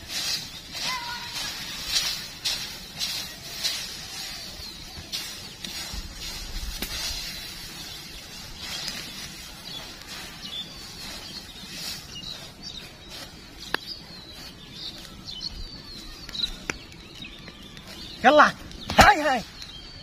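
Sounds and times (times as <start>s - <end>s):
birds chirping: 0.0s - 20.0s
dry straw rustling: 0.0s - 20.0s.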